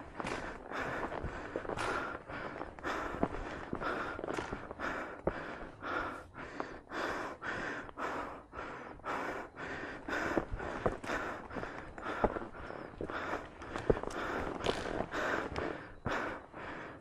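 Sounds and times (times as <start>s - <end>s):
person panting: 0.0s - 17.0s.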